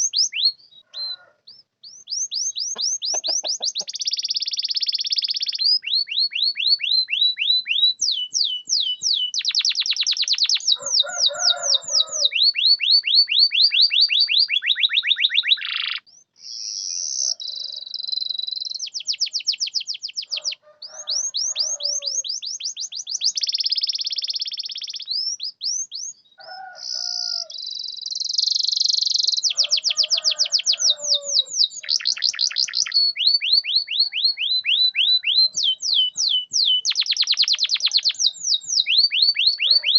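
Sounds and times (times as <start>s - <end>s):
canary singing rapid trills: 0.0s - 26.2s, 26.8s - 39.9s.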